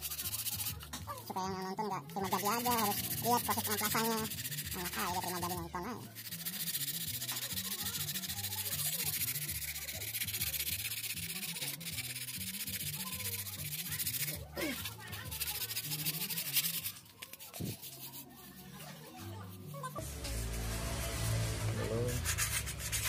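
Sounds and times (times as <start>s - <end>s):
sandpaper rubbing wood: 0.0s - 0.9s, 2.2s - 19.0s, 20.1s - 23.0s.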